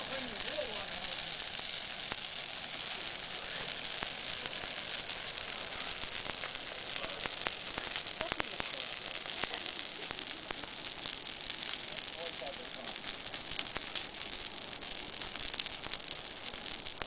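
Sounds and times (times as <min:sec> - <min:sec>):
fire crackling and popping: 0:00.0 - 0:17.0
hiss of flames: 0:00.0 - 0:17.0.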